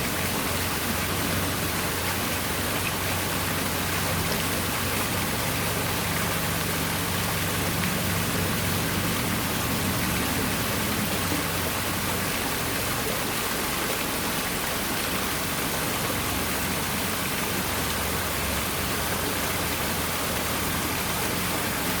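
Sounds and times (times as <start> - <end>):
water pouring over waterfall: 0.0 - 22.0.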